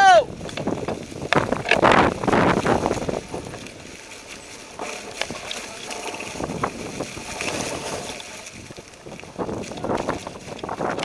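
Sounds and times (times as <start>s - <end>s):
bike tyres rustling through leaves: 0.0s - 11.0s
wind on microphone: 0.0s - 11.0s.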